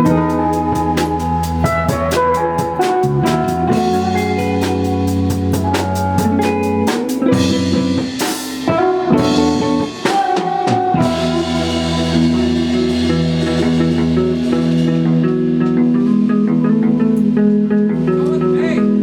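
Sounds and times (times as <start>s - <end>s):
electric guitar ringing chords: 0.0s - 19.0s.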